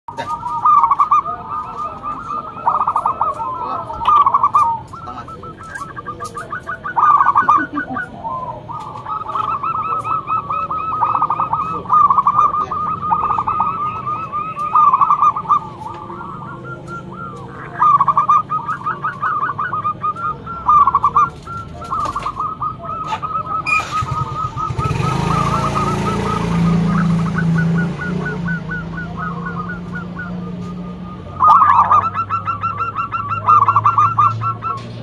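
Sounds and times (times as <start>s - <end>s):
doves cooing: 0.1s - 35.0s.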